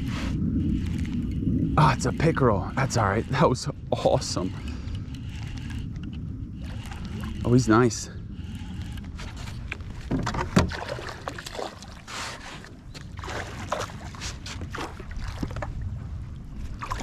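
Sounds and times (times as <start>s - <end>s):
water splashing against boat: 0.0s - 17.0s.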